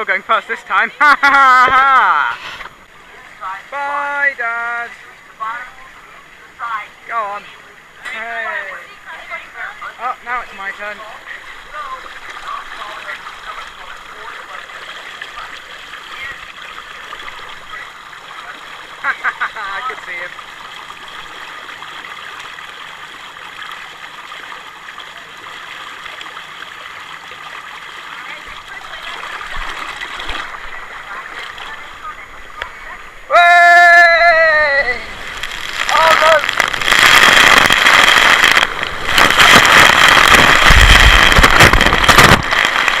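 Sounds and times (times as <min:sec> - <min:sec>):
water rushing down slide: 0:08.0 - 0:43.0.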